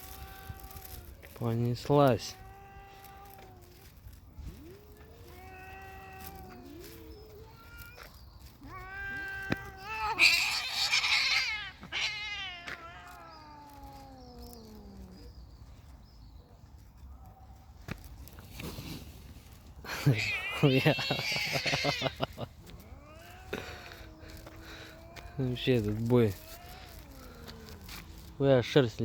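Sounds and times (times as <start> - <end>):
cats screeching: 0.0 - 15.4, 19.9 - 28.8
cats yowling: 0.0 - 15.4, 19.9 - 28.8.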